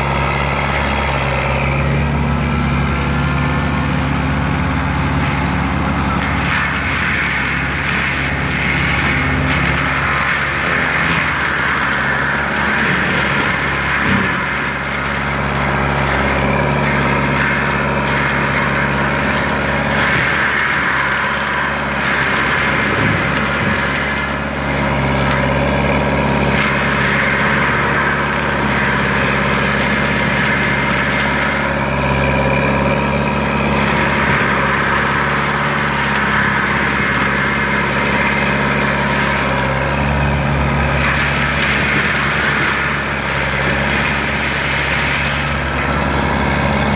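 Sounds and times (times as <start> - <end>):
forestry mulcher droning: 0.0 - 46.9.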